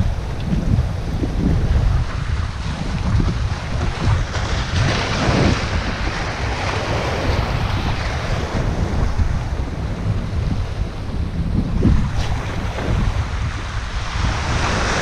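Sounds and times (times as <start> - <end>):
waves washing over boulders: 0.0 - 15.0
wind buffeting microphone: 0.0 - 15.0.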